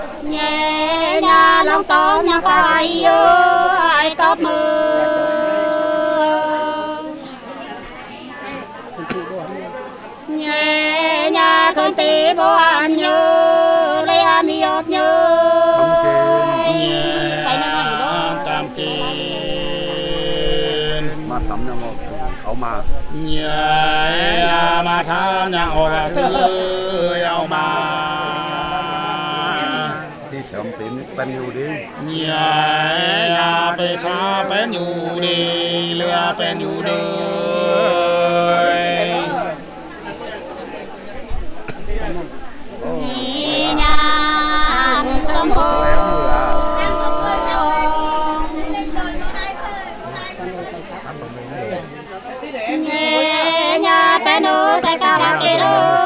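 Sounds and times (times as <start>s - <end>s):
lower singing voice: 0.0s - 7.4s, 10.3s - 30.2s, 32.0s - 39.8s, 42.8s - 50.7s, 52.7s - 56.0s
women singing unaccompanied: 0.0s - 7.9s, 10.2s - 21.5s, 23.1s - 30.2s, 32.0s - 39.7s, 42.8s - 50.6s, 52.3s - 56.0s.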